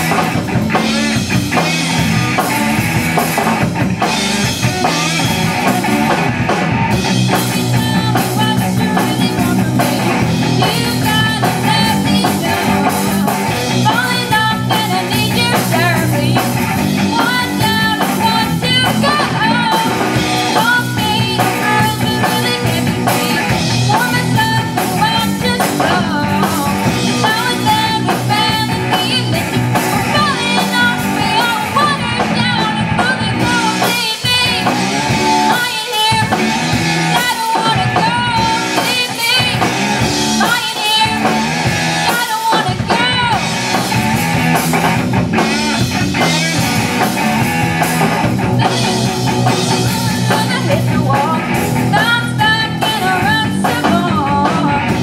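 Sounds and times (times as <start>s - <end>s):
drum kit: 0.0s - 55.0s
electric bass: 0.0s - 55.0s
electric guitar: 0.0s - 55.0s
girl singing lead: 0.0s - 55.0s.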